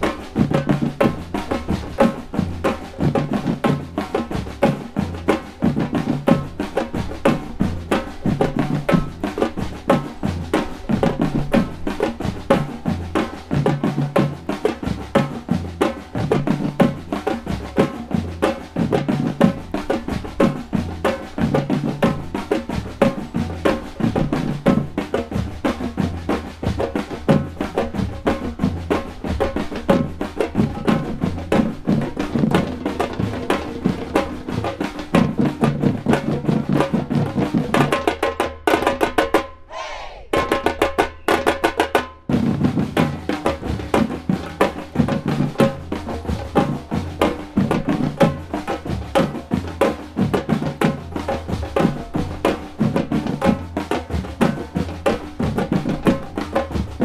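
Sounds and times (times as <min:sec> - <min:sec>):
drum ensemble playing: 0:00.0 - 0:57.0.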